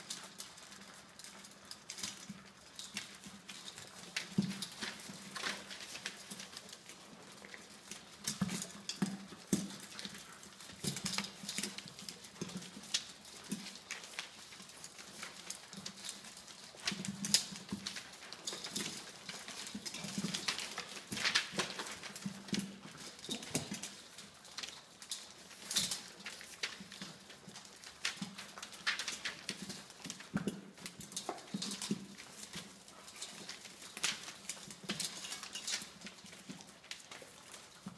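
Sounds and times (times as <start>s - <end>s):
puppies crunching kibble: 0.0s - 37.9s.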